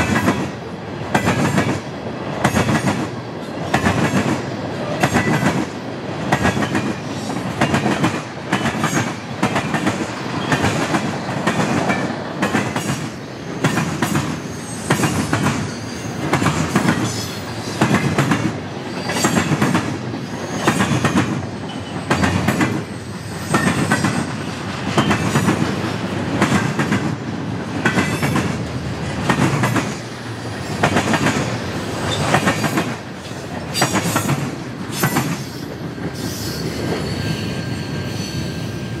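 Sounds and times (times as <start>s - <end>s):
train wheels clacking: 0.0s - 38.6s
train rumble: 0.0s - 39.0s.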